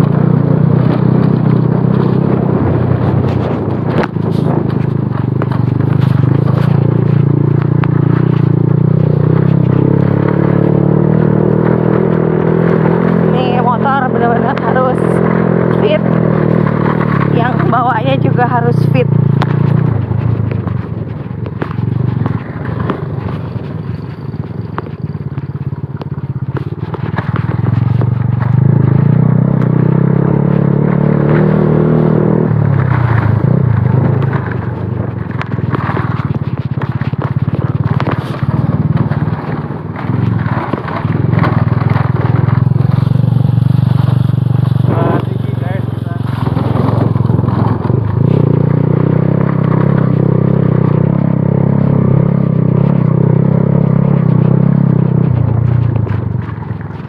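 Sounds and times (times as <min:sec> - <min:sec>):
motorcycle clattering over bumps: 0:00.0 - 0:57.0
motorcycle engine running: 0:00.0 - 0:57.0.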